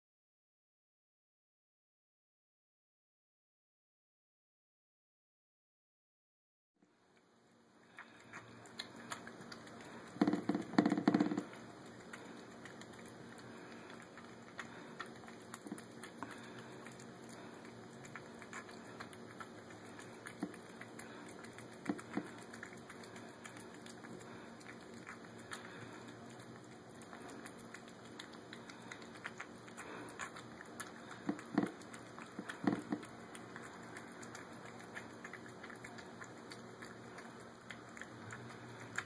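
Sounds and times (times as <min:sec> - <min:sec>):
cat chewing and licking: 0:06.8 - 0:39.0.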